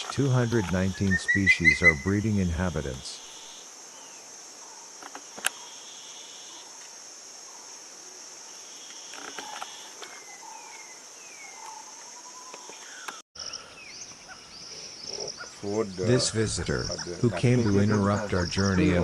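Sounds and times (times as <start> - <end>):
bird calls: 0.0 - 6.8, 8.7 - 19.0
insects droning: 0.0 - 19.0.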